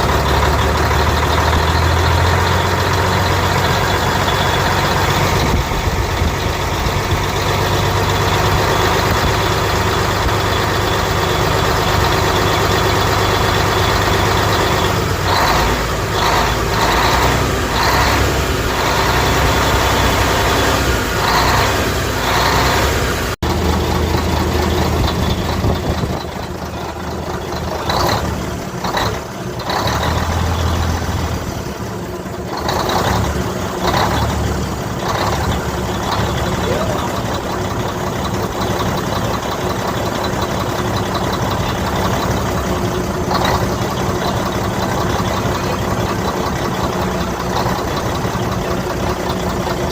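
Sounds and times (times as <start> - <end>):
diesel truck engine idling: 0.0 - 49.9.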